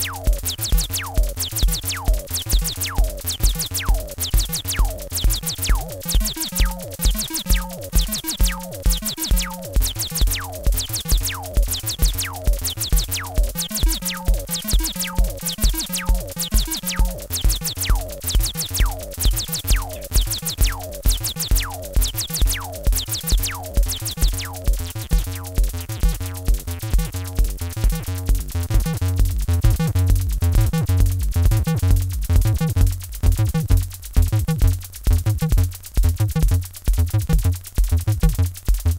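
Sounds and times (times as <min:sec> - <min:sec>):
drum machine beat: 0:00.0 - 0:38.9
synth bassline: 0:00.0 - 0:38.9.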